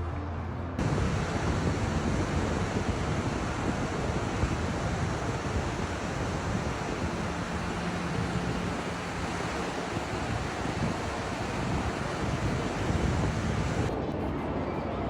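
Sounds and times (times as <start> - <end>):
low steady hum: 0.0 - 14.0
outdoor rushing noise: 0.6 - 14.6
surf-like noise: 0.8 - 14.0
wind buffeting microphone: 0.8 - 14.0.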